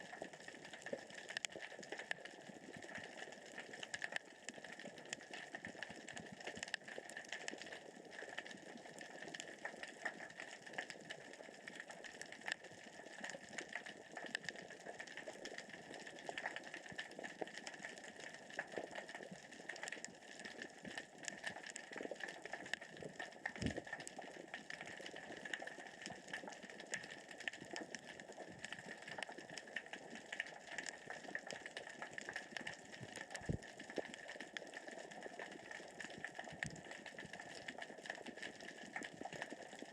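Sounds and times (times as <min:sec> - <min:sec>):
pebbles clicking underwater: 0:00.0 - 0:39.9.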